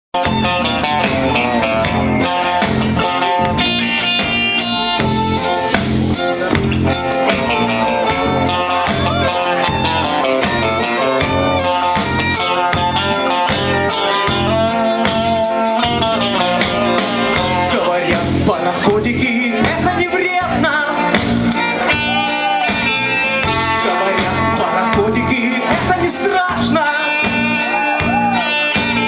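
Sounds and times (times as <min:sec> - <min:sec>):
rock band instrumental: 0:00.2 - 0:29.0.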